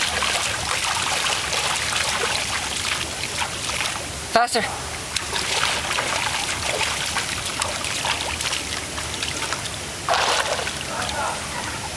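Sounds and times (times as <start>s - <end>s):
pool water churning: 0.0s - 11.9s
water splashes: 0.0s - 11.9s.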